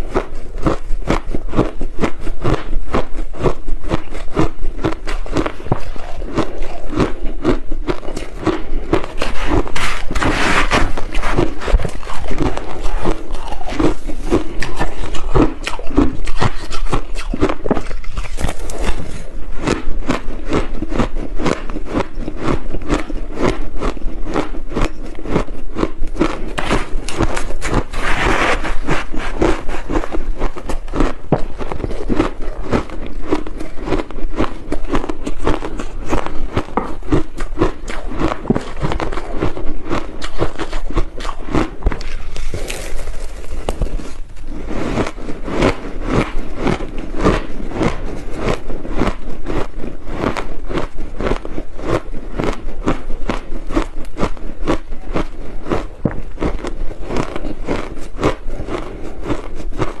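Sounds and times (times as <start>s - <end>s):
ice being chewed: 0.0s - 60.0s.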